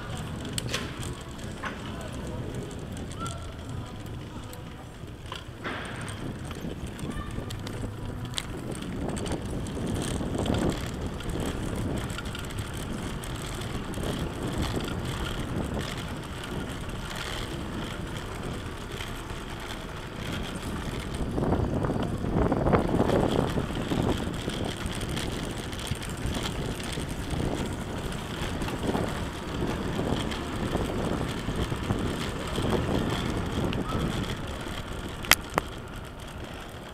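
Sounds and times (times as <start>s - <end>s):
tricycle rattling over cobblestones: 0.0s - 36.9s
wind on microphone: 5.0s - 36.9s.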